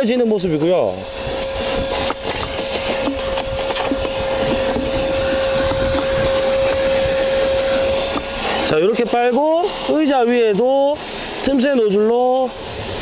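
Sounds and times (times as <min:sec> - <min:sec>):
vacuum motor whining: 0:00.3 - 0:13.0.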